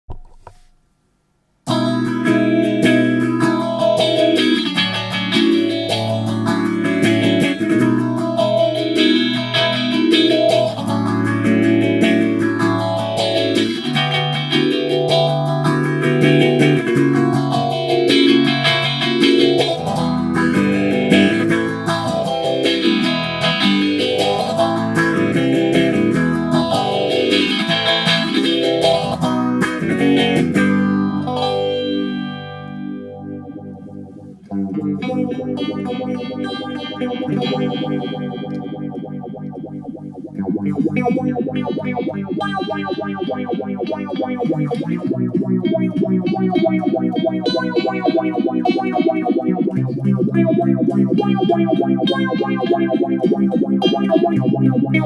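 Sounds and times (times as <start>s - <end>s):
electric guitar chords with phaser: 1.7s - 55.0s.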